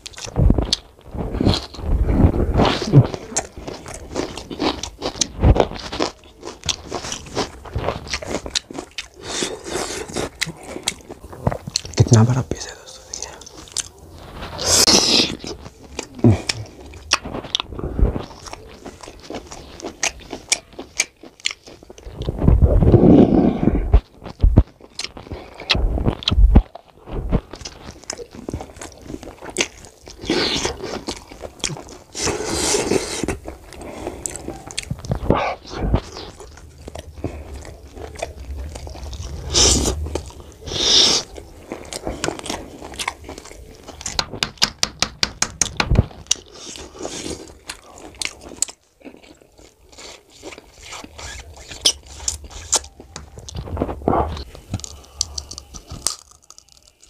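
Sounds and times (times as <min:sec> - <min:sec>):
person chewing and biting: 0:00.0 - 0:12.2, 0:13.2 - 0:57.0.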